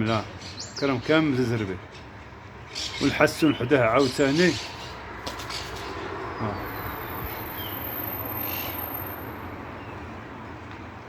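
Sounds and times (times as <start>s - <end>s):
bird chirping and twittering: 0.0s - 10.1s.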